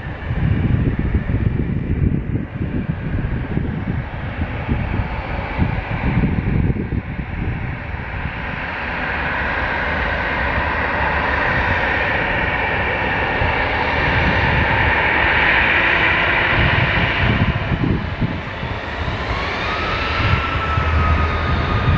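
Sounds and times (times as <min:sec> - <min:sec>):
jet engines roaring: 0:00.0 - 0:21.9
wind buffeting microphone: 0:00.0 - 0:21.9.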